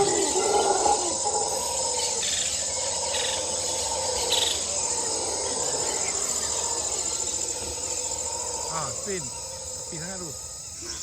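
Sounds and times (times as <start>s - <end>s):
insects chorus: 0.0s - 11.0s
short insect chirps: 0.0s - 11.0s.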